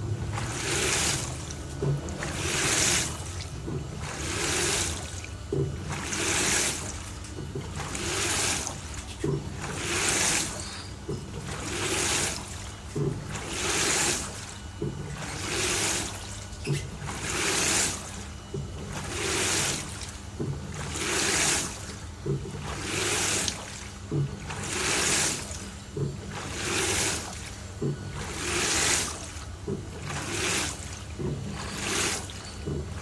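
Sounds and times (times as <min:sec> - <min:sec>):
washing machine motor hum: 0:00.0 - 0:33.0
water swishing in washing machine: 0:00.0 - 0:33.0.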